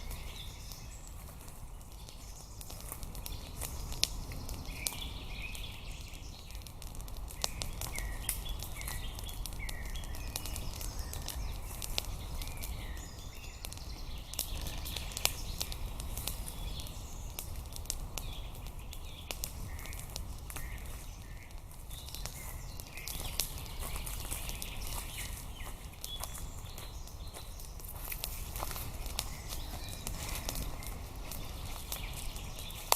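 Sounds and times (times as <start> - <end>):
sharp clicks and crackles: 0.0 - 32.9
small birds chirping: 0.0 - 32.9.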